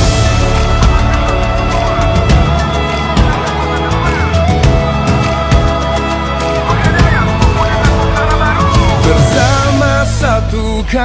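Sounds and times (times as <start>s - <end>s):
instrumental music with drum beat: 0.0s - 10.2s.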